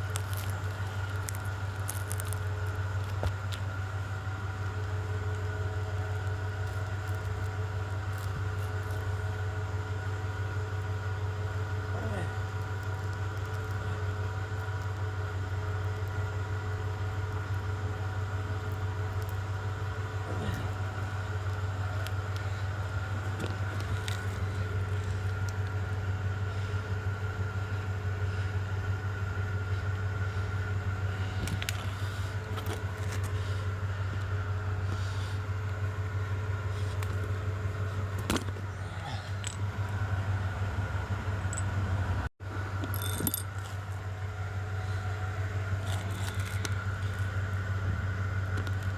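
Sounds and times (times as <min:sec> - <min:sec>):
motor droning: 0:00.0 - 0:48.9.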